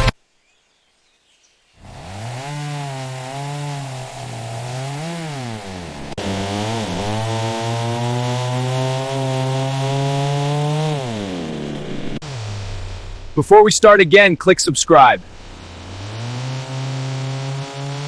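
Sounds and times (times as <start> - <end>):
chainsaw engine revving: 1.8 - 13.8, 14.9 - 18.0.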